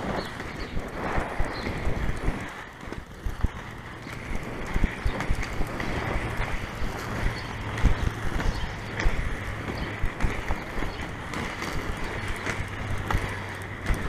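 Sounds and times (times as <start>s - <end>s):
skate wheels rolling on asphalt: 0.0s - 14.0s
wheels knocking over cracks: 0.0s - 14.0s
wind rumbling on microphone: 0.0s - 14.0s.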